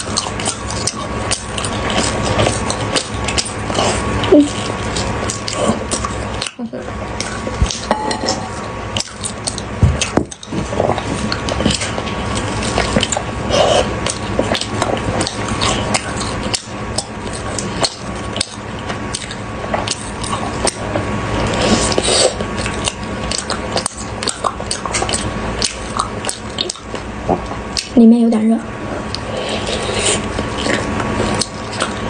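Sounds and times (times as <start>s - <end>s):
wet chewing sounds: 0.0s - 7.9s, 8.9s - 28.0s, 28.8s - 32.0s.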